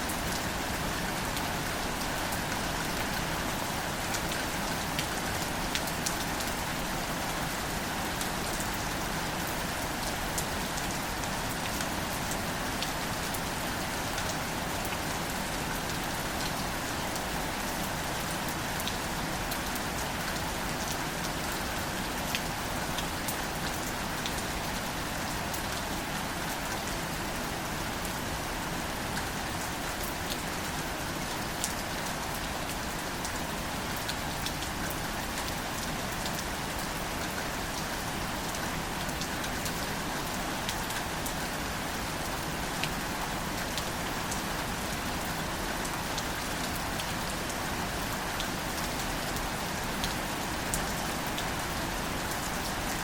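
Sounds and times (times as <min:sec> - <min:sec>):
gentle rain on plants: 0:00.0 - 0:53.0.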